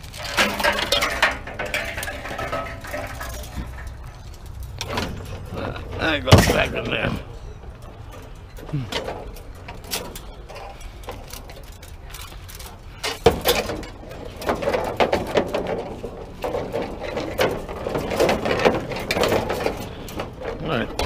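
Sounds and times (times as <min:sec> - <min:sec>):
scrap metal clattering: 0:00.0 - 0:21.0.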